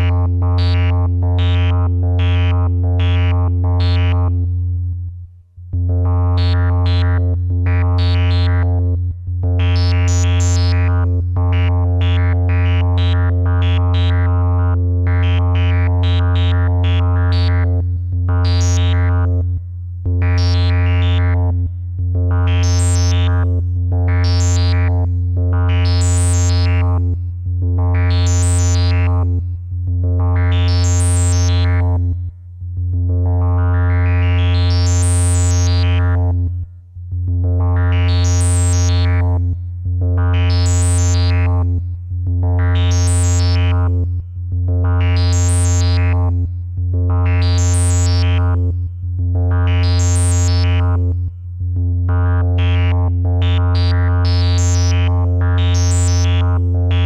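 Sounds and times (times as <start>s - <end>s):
synthesizer tone with filter sweeps: 0.0s - 4.6s, 5.8s - 32.2s, 33.0s - 36.6s, 37.3s - 57.0s.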